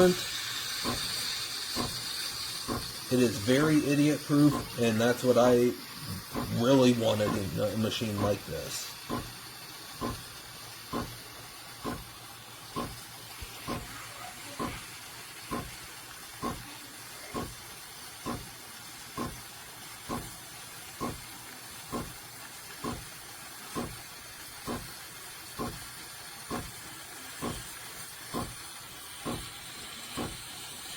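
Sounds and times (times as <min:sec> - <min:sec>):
steam wand frothing milk: 0:00.0 - 0:30.9.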